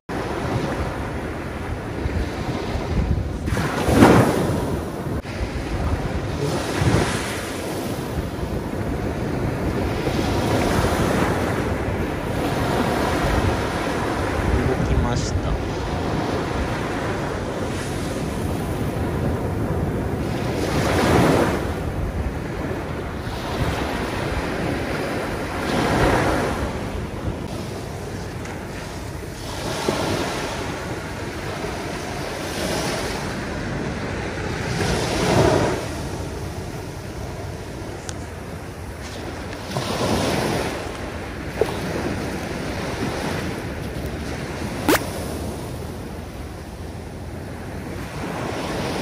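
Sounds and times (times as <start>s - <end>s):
small waves breaking on beach: 0.1s - 49.0s.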